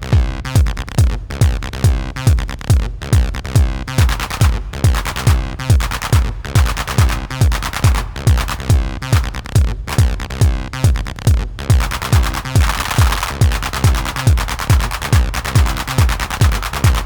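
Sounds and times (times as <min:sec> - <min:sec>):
four-on-the-floor kick drum: 0:00.0 - 0:17.0
synth bass line: 0:00.0 - 0:17.0.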